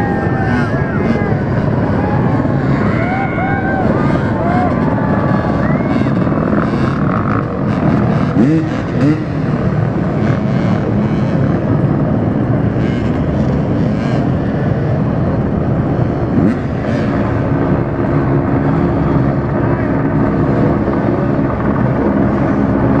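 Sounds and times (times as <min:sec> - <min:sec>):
helicopter engine: 0:00.0 - 0:08.3, 0:10.8 - 0:23.0
dirt bike engines: 0:00.0 - 0:23.0.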